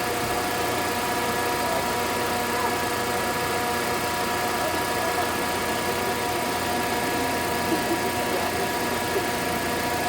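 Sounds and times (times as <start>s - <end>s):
pickup engine idling: 0.0s - 10.0s.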